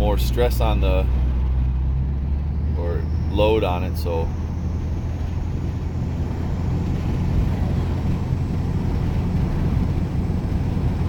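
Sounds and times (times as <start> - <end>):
diesel engine running: 0.0 - 11.0
road and wind noise: 0.0 - 11.0.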